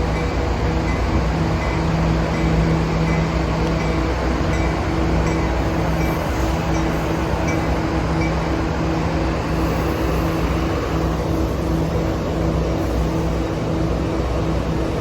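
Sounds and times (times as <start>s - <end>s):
train idling hum: 0.0s - 15.0s.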